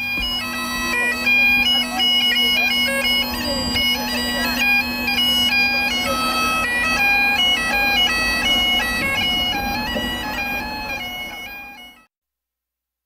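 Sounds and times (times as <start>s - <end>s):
bagpipes playing a tune: 0.0s - 12.1s.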